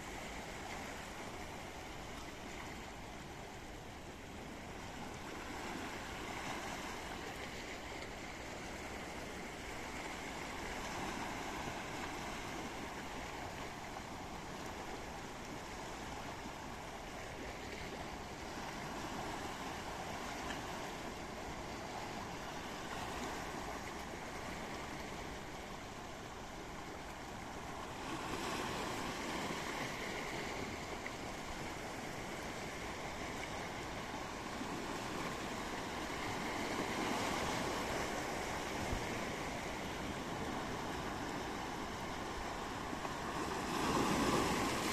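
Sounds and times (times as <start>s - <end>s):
sea waves washing in: 0.0s - 44.9s.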